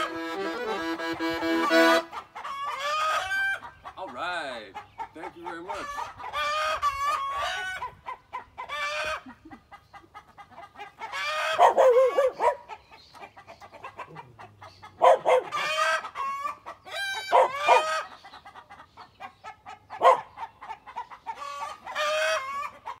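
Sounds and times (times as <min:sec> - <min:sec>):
chickens clucking and crowing: 0:00.0 - 0:23.0.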